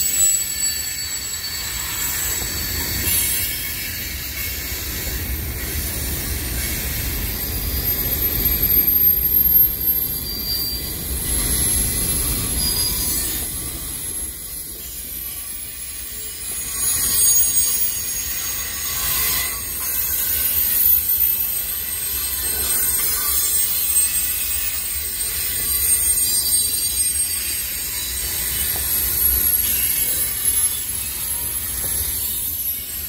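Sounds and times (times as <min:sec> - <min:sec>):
freight train wheels rumbling on rail: 0:00.0 - 0:33.0
high-pitched wheel squeal: 0:00.0 - 0:33.0.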